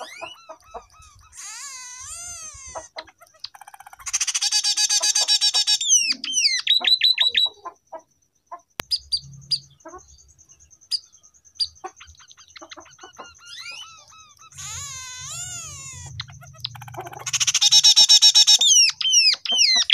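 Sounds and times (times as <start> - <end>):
bird singing trills and whistles: 0.0 - 7.7, 8.8 - 19.9.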